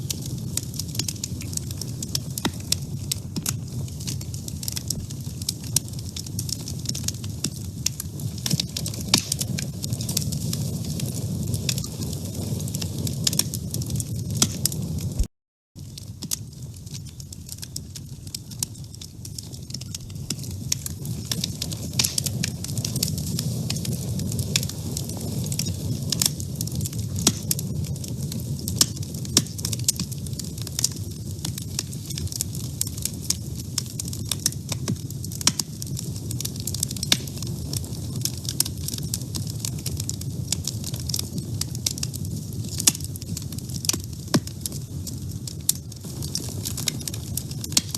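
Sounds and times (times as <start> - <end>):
wood fire crackling in a stove: 0.0 - 47.9.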